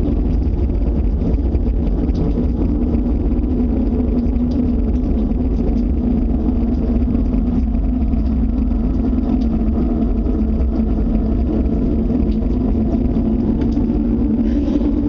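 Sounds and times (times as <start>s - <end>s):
low droning rumble with hum: 0.0s - 15.0s.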